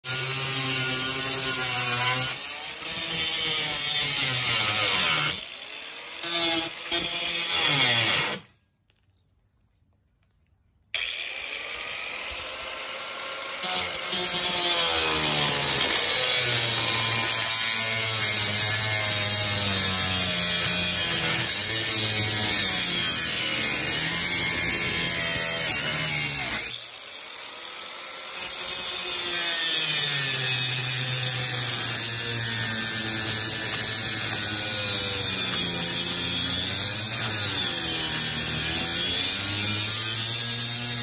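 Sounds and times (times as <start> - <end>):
angle grinder cutting metal: 0.0 - 8.5, 11.0 - 41.0.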